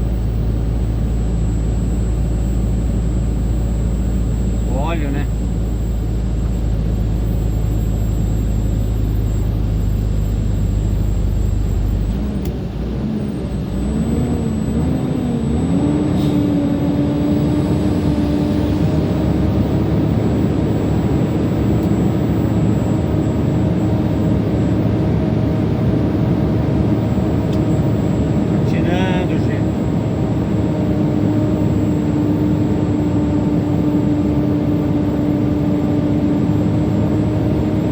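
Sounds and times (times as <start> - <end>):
truck diesel engine labouring: 2.2 - 37.9.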